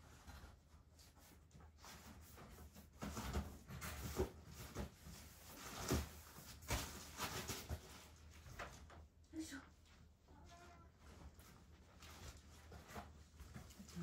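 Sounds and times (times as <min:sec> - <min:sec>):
rustling: 0:00.0 - 0:09.0, 0:09.9 - 0:14.0.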